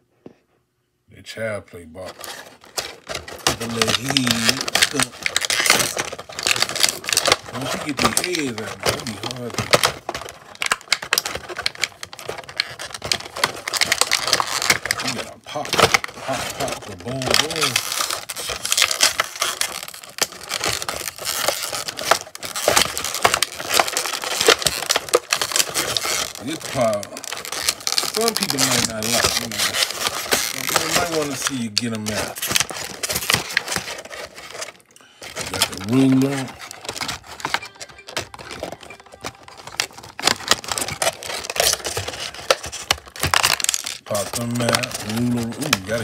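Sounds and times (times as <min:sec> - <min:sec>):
plastic tray crinkling: 0:02.0 - 0:46.0.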